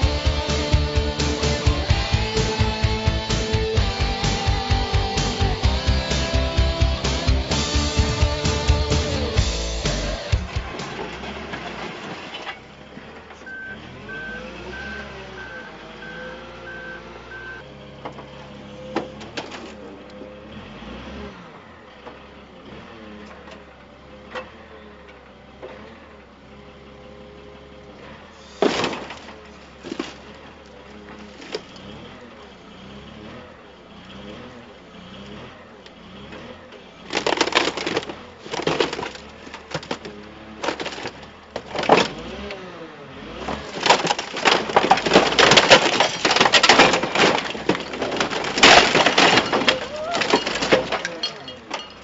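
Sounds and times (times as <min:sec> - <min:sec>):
metal crunching: 0:00.0 - 0:16.6, 0:17.2 - 0:21.7, 0:28.0 - 0:52.0
loader engine and hydraulics humming: 0:00.0 - 0:52.0.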